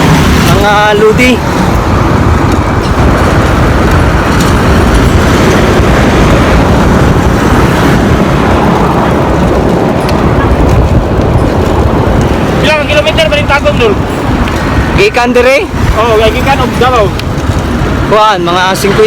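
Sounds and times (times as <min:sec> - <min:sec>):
road traffic: 0:00.0 - 0:19.0
wind noise on microphone: 0:00.0 - 0:19.0.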